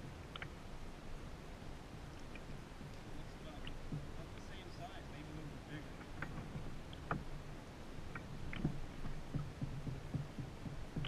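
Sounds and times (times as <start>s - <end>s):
low steady hum: 0.0s - 11.0s
soft low knocks: 1.6s - 11.0s.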